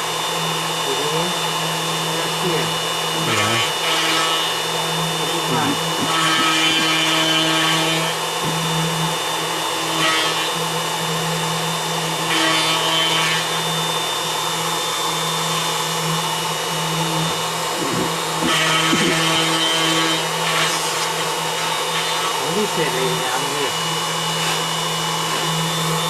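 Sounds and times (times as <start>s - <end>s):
router cutting wood: 0.0s - 26.0s.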